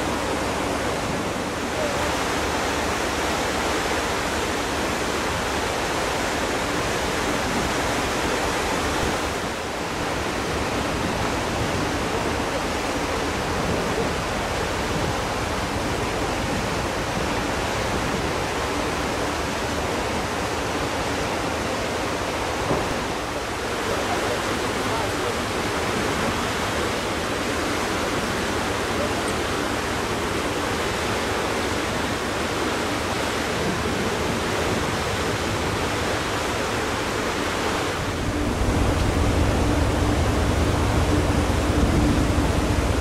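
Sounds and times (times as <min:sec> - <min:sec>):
wind and sea water rushing: 0:00.0 - 0:43.0.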